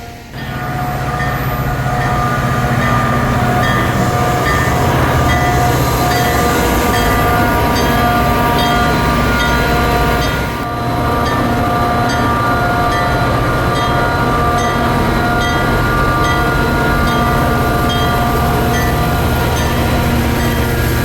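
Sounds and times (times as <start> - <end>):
bell ringing: 0.0 - 21.0
diesel train engine drone: 0.0 - 21.0.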